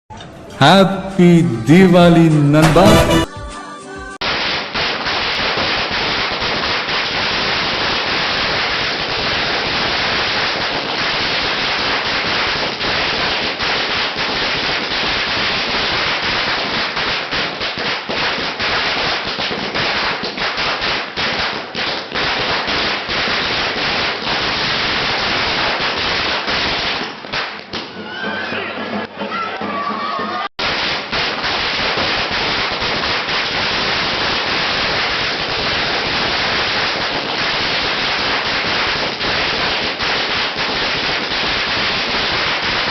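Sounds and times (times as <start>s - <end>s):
firecrackers crackling: 0.3s - 3.5s, 4.2s - 42.9s.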